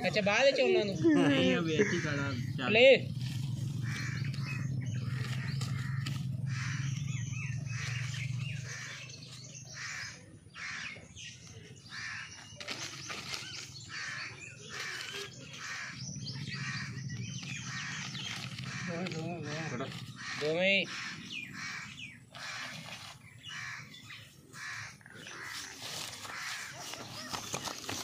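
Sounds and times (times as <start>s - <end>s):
small birds chirping: 0.0s - 28.0s
crows cawing: 1.4s - 2.8s, 3.4s - 12.6s, 13.7s - 28.0s.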